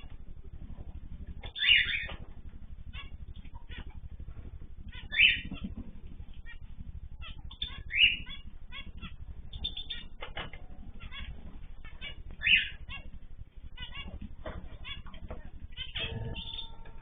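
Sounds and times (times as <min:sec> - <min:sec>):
birds chirping: 0:00.0 - 0:17.0
low steady hum: 0:00.0 - 0:17.0
harsh bird squawks: 0:00.7 - 0:17.0.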